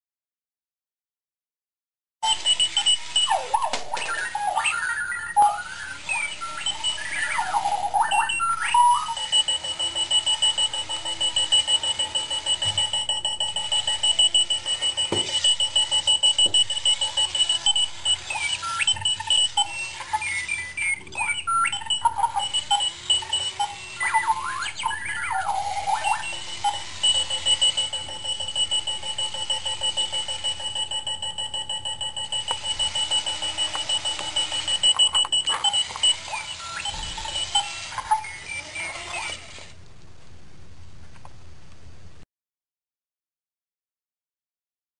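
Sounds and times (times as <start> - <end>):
warbling electronic chirps: 2.2 - 39.5
alarm clock pulsing beep: 2.2 - 39.7.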